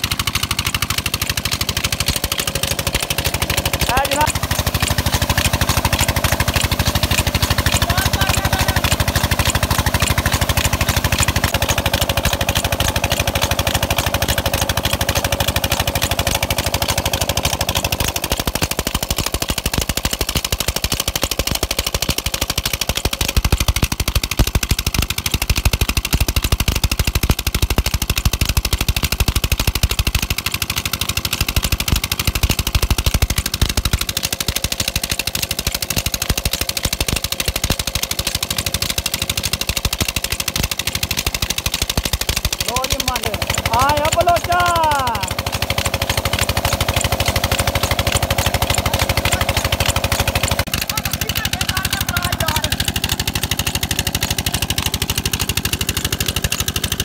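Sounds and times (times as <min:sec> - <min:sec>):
water gushing and splashing: 0:00.0 - 0:52.0
diesel engine chugging: 0:00.0 - 0:57.0.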